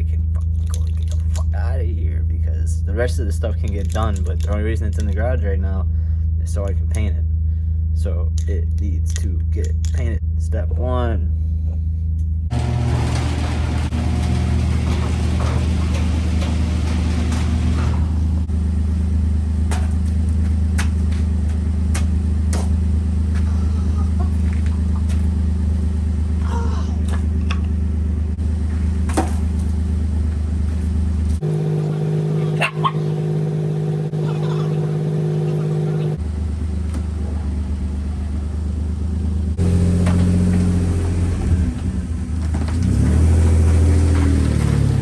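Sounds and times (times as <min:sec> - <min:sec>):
car engine idling: 0:00.0 - 0:45.0
steady engine hum: 0:00.0 - 0:45.0.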